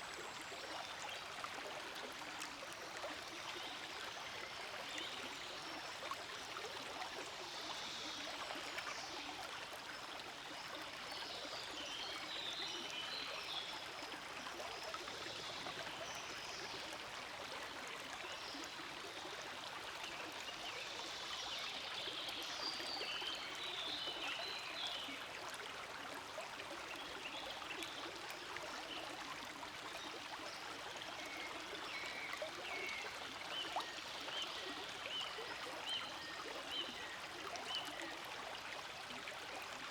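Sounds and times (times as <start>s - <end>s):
stream rushing and trickling: 0.0s - 39.9s.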